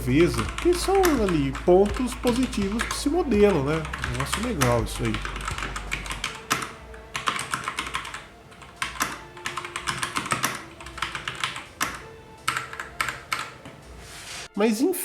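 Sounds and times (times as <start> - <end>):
mechanical keyboard typing: 0.2 - 13.6.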